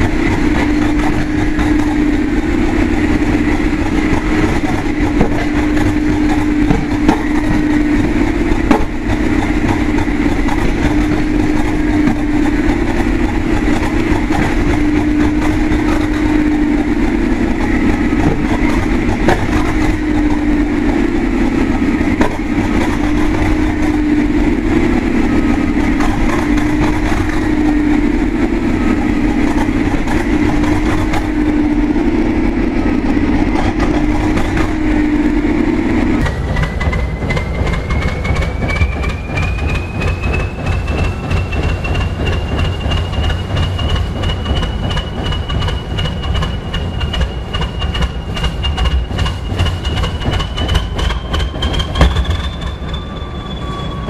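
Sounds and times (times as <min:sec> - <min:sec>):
diesel engine idling: 0:00.0 - 0:53.3.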